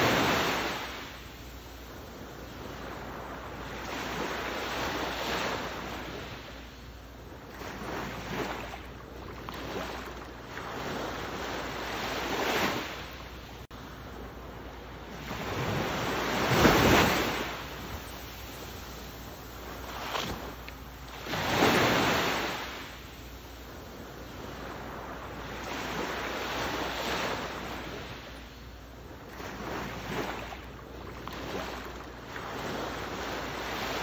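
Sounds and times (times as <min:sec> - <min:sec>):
ocean waves washing in: 0:00.0 - 0:34.0.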